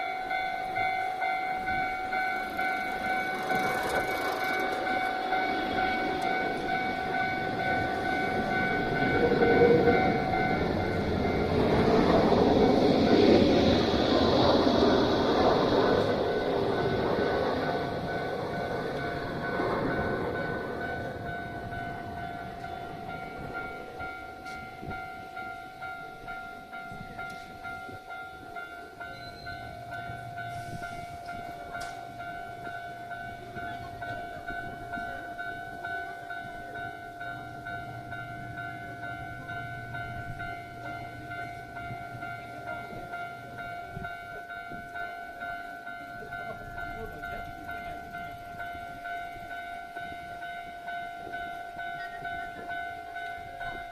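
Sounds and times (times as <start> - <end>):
passing train: 0.0 - 53.9
railroad crossing bell ringing: 0.0 - 53.9.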